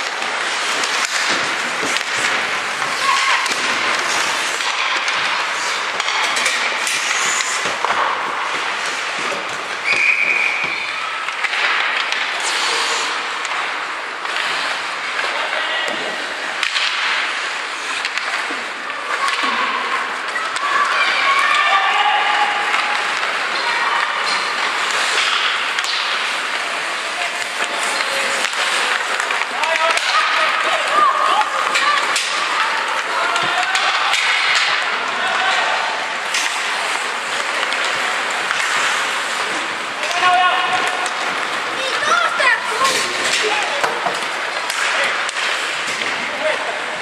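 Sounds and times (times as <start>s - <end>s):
arena noise: 0.0s - 47.0s
hockey sticks and puck clacking: 0.0s - 47.0s
skates scraping ice: 0.0s - 47.0s.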